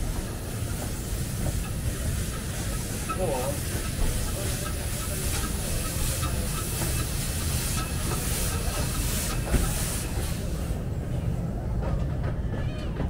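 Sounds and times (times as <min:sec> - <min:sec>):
steam hissing: 0:00.0 - 0:11.1
rumble of locomotive and train: 0:00.0 - 0:13.0.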